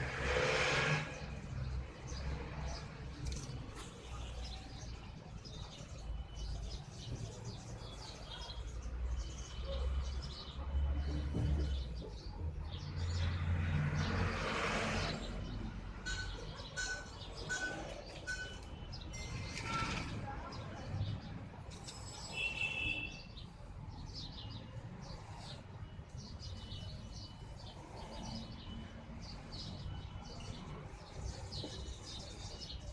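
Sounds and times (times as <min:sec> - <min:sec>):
birds chirping: 0:01.1 - 0:32.9.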